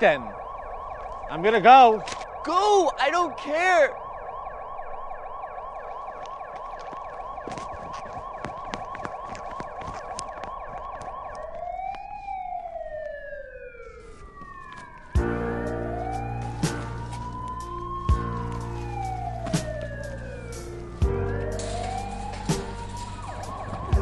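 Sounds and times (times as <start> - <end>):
police siren: 0.0 - 24.0.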